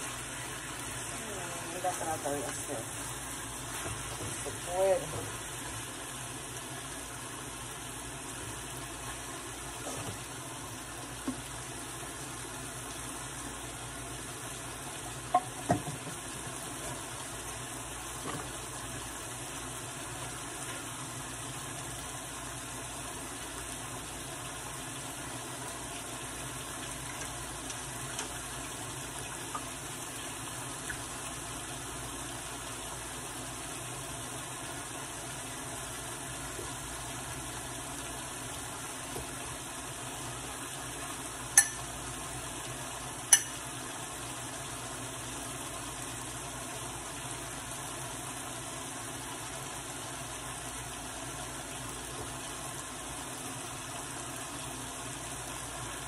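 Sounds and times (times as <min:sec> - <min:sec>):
meat sizzling in a frying pan: 0:00.0 - 0:56.0
plantain frying in oil: 0:00.0 - 0:56.0.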